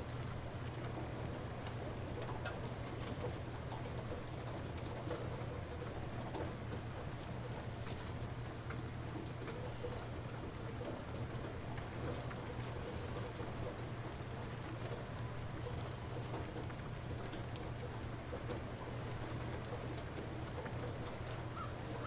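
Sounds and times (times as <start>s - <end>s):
light rain falling: 0.0s - 22.0s.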